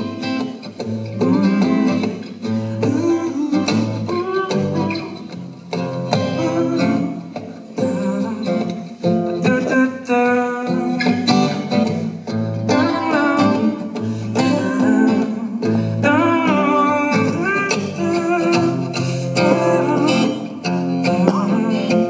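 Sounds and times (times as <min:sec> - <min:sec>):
acoustic guitar strumming: 0:00.0 - 0:22.0
man singing without words: 0:01.0 - 0:05.3, 0:06.0 - 0:22.0.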